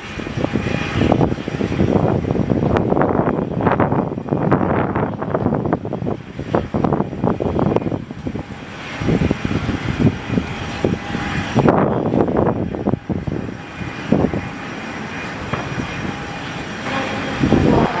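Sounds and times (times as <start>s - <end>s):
airliner engine rush: 0.0s - 18.0s
wind buffeting microphone: 0.0s - 18.0s.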